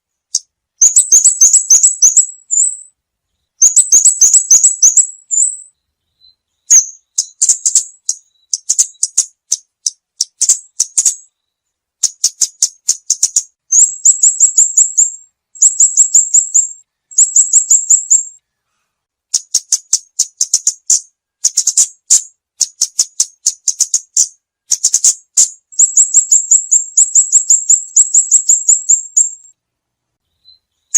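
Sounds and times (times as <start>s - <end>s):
songbird chirping: 0.0s - 30.9s.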